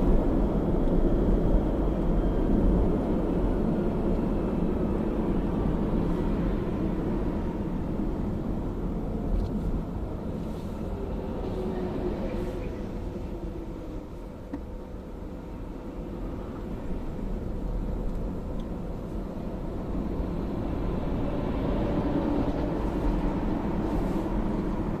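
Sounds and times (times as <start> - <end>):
road noise inside car: 0.0 - 25.0.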